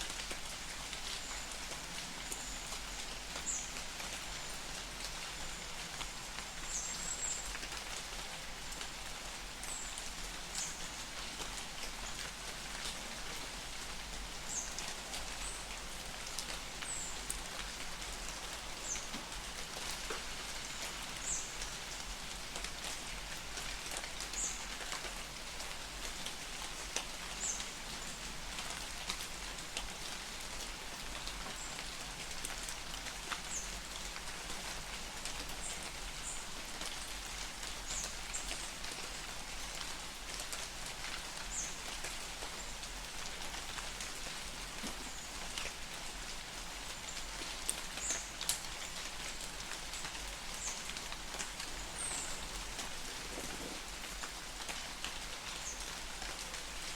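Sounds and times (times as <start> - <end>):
light rain patter: 0.0 - 56.9.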